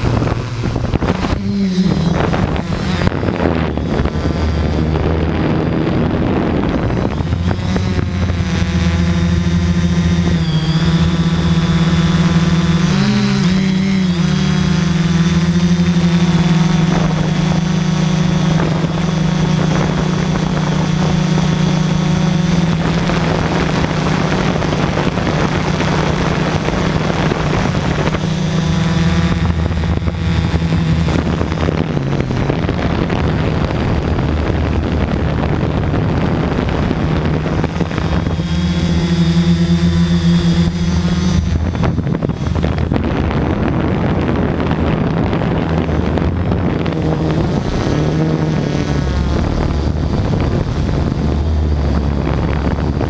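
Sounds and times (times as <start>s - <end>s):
drone propellers buzzing: 0.0s - 53.0s
wind rushing over microphone: 0.0s - 53.0s.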